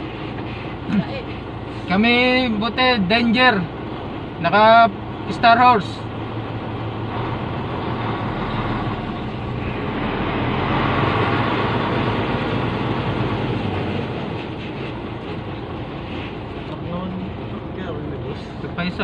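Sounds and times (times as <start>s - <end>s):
truck engine drone from cab: 0.0s - 19.0s.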